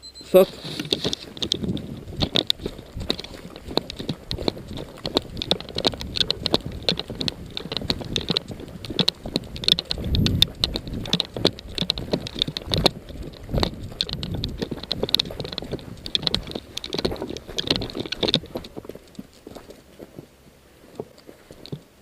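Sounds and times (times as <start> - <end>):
footsteps on rough ground: 0.4 - 22.0
gear knocking and rattling: 0.5 - 20.3.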